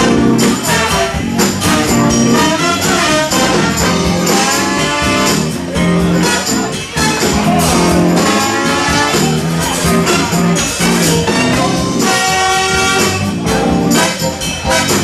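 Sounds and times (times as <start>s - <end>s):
live band with horns and drums: 0.0s - 15.0s.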